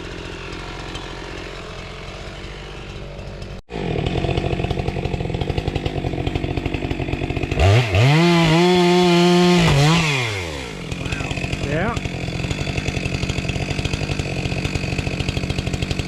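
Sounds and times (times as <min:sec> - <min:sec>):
chainsaw idling and revving: 0:00.0 - 0:16.0.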